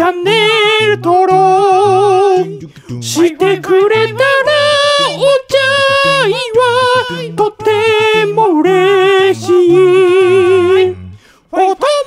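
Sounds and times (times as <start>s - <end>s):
person singing long notes: 0.0s - 12.0s
low bass line: 0.7s - 11.2s.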